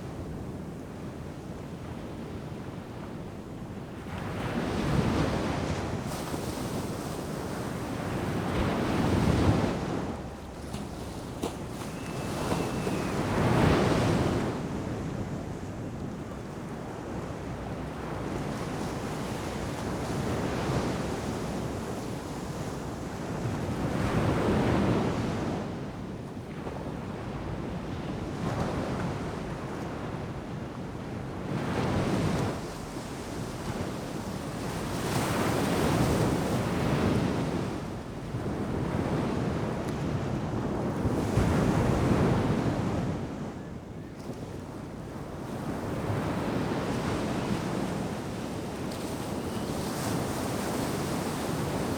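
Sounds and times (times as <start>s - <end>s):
wind on microphone: 0.0s - 51.9s
ocean waves breaking on beach: 2.1s - 26.2s, 30.2s - 43.8s, 44.7s - 51.9s.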